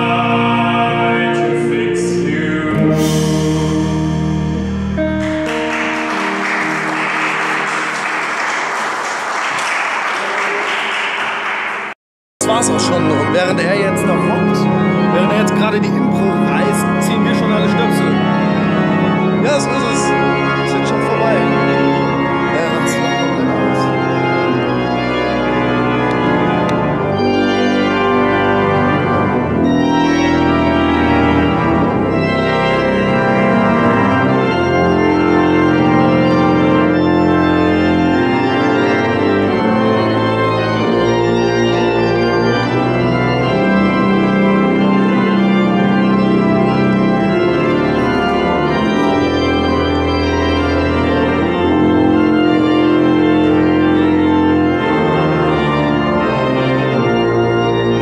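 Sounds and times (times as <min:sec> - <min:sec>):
church organ chords: 0:00.0 - 0:58.0.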